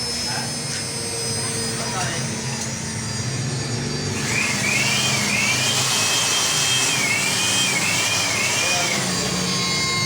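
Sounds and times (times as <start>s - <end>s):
electric blower whine and air rush: 0.0s - 10.0s.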